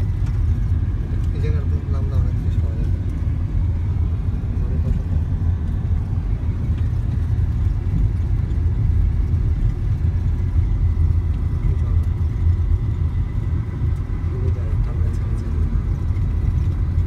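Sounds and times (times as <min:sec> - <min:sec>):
car driving on gravel road: 0:00.0 - 0:17.0.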